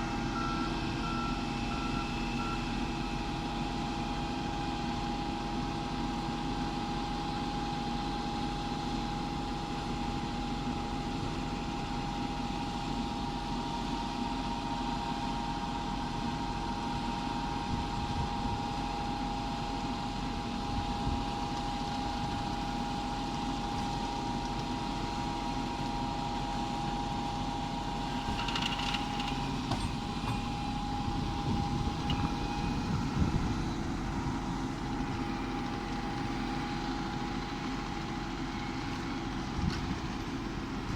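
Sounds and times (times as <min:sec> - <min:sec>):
constant whine: 0:00.0 - 0:40.9
tractor engine running: 0:00.0 - 0:40.9.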